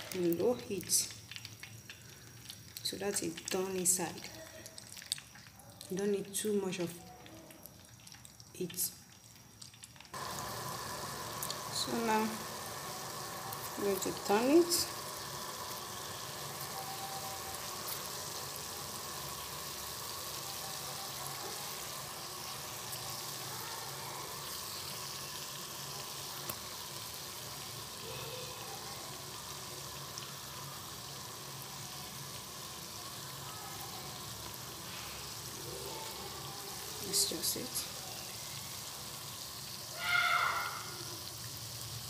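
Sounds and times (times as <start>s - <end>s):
doughnuts sizzling in oil: 0.0s - 42.0s.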